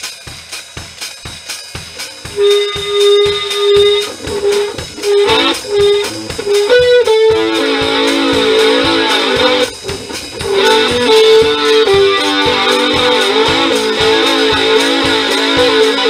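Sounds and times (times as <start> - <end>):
drum beat: 0.0 - 16.0
guitar strumming chords: 2.0 - 16.0.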